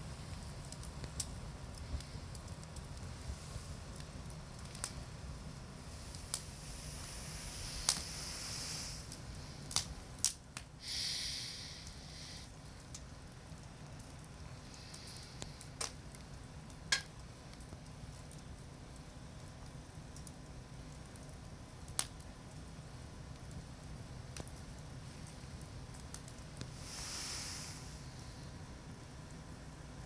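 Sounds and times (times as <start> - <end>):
fire hissing: 0.0 - 18.3, 21.8 - 30.0
campfire crackling: 0.0 - 30.0.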